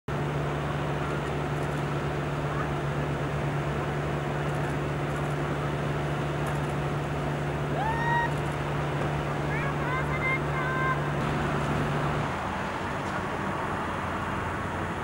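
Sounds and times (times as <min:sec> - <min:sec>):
diesel truck idling: 0:00.1 - 0:15.0.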